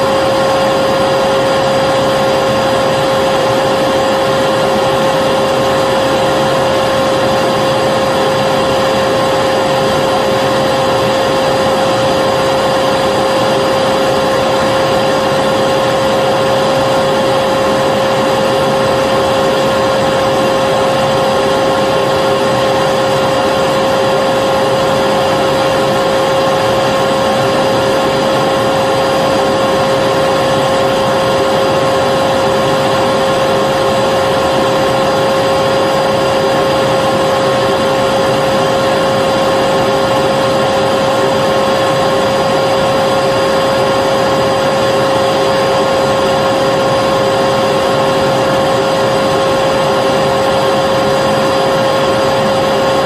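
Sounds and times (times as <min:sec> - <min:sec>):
vacuum cleaner motor running: 0:00.0 - 0:53.0.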